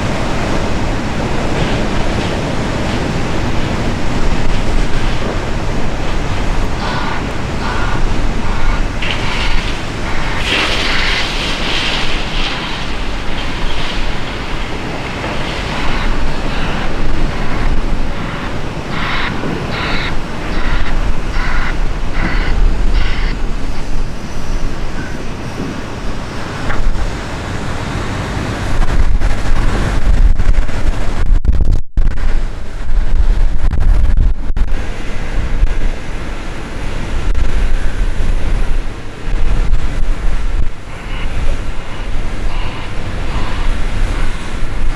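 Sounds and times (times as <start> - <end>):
diesel machinery running: 0.0 - 31.2, 32.2 - 44.9
wind buffeting microphone: 0.0 - 44.9.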